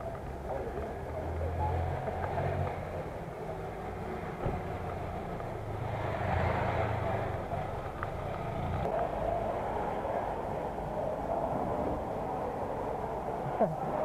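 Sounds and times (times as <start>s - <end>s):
vehicle engine running: 0.0s - 11.4s
street traffic hum: 0.0s - 14.0s.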